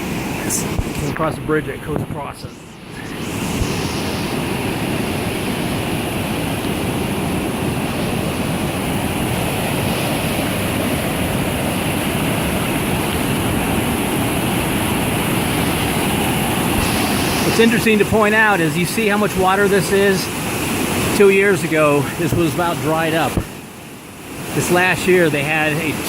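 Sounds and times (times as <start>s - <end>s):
whitewater rapids rushing: 0.0s - 1.6s, 2.4s - 26.0s.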